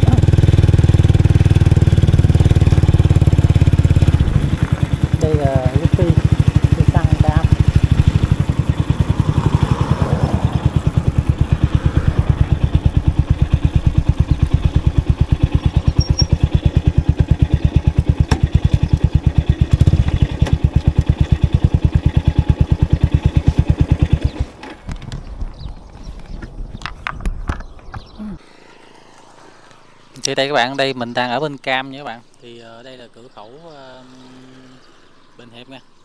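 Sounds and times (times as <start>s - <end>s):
motorcycle engine running: 0.0s - 29.2s, 29.9s - 36.0s.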